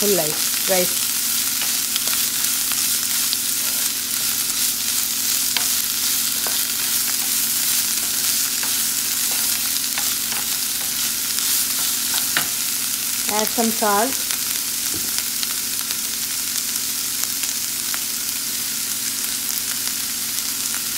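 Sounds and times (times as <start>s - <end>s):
vegetables sizzling in hot oil: 0.0s - 20.9s.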